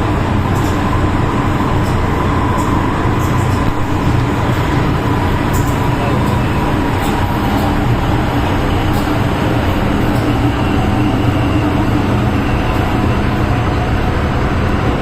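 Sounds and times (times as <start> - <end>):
train wheels rumbling on rail: 0.0 - 15.0
train whine: 0.0 - 15.0.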